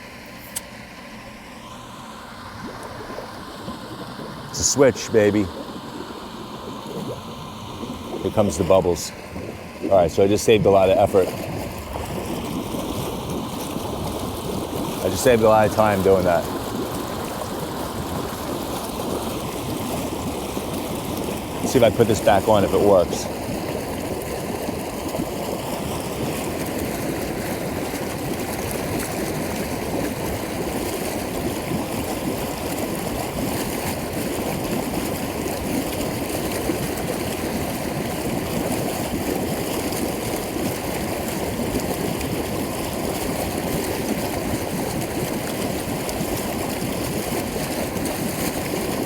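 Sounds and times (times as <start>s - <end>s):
hot tub air blower running: 0.0s - 49.0s
air bubbling through water: 1.7s - 49.0s.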